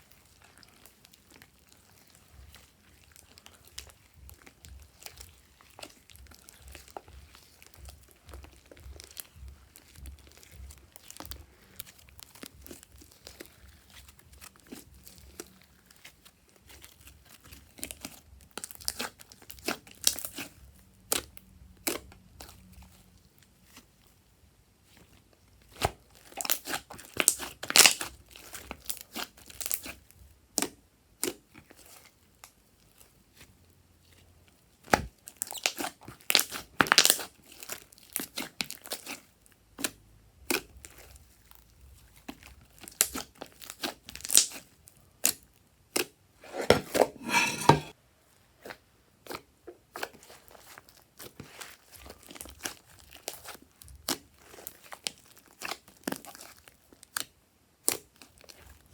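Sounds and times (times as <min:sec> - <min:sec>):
slime crinkling and crackling: 0:00.0 - 0:47.7, 0:48.6 - 0:58.9.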